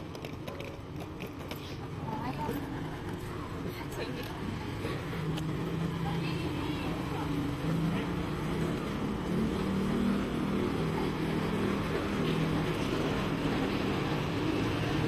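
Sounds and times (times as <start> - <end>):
footsteps of passengers: 0.0 - 15.0
murmur of passengers: 1.3 - 15.0.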